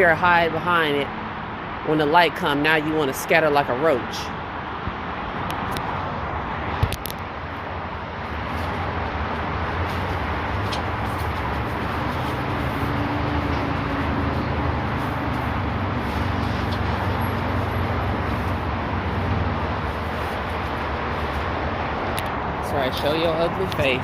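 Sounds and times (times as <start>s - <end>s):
vehicle engine and tyres rumbling: 0.0s - 24.0s.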